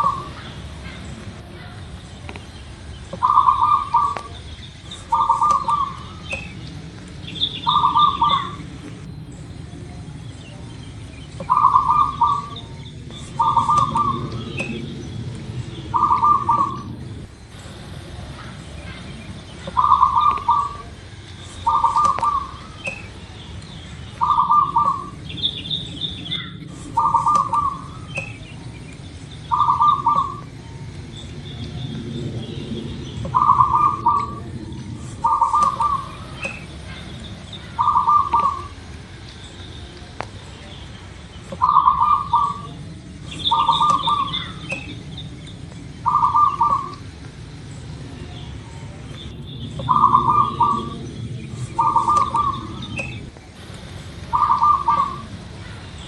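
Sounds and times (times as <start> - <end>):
dove cooing trill: 0.0 - 39.1, 41.5 - 56.0
high bird chirps: 2.2 - 9.4, 10.6 - 17.8, 18.4 - 38.8, 41.3 - 47.1, 48.4 - 53.3, 54.3 - 56.0.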